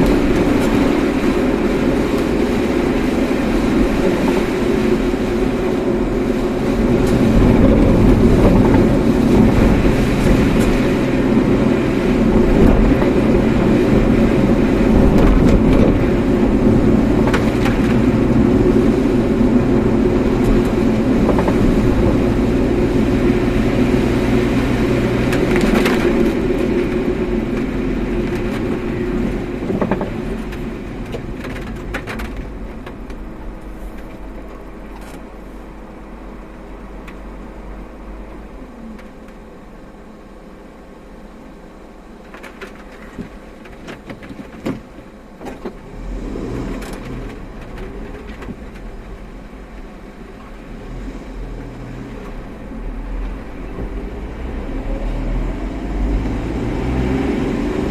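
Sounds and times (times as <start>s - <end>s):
car engine and tyre rumble: 0.0s - 57.9s.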